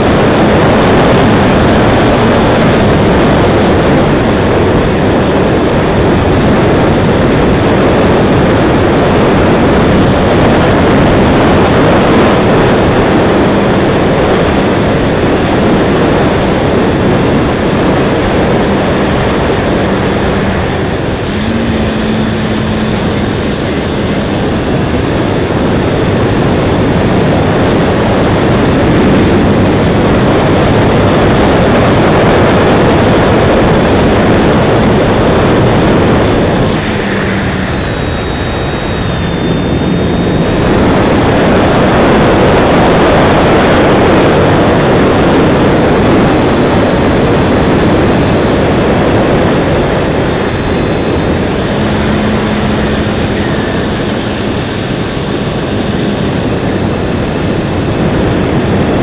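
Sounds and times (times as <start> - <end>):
electric motor and propeller: 0.0 - 59.0
wind rush over microphone: 0.0 - 59.0.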